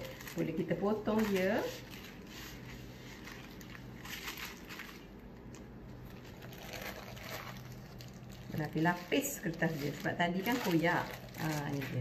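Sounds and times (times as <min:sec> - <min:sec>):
baking paper crinkling: 0:00.0 - 0:12.0.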